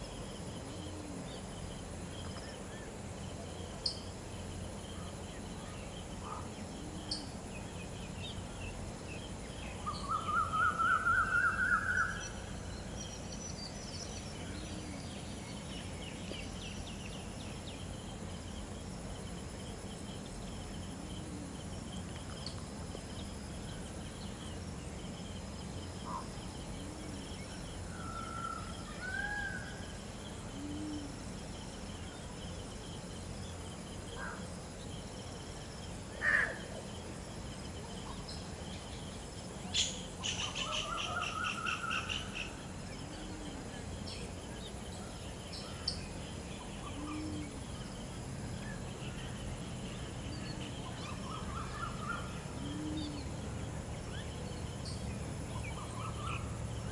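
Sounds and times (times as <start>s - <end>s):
bird calls: 0.0s - 18.8s, 19.6s - 32.6s, 35.8s - 37.1s, 37.8s - 56.9s.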